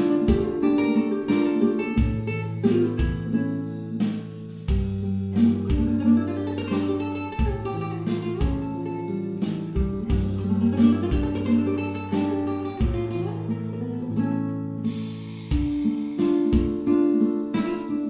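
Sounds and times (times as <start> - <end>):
acoustic guitar strummed and plucked: 0.0 - 18.0.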